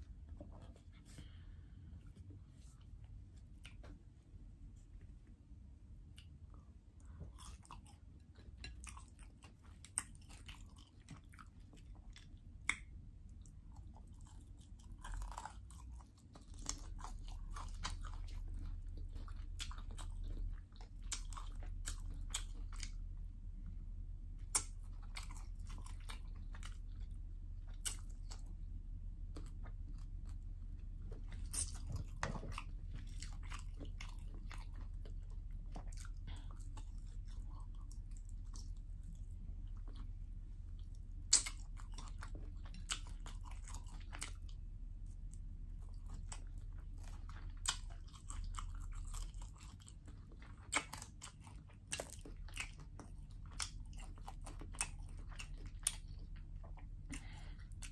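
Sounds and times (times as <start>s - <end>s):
steady low hum: 0.0s - 57.9s
person chewing crunchy food: 6.0s - 57.9s.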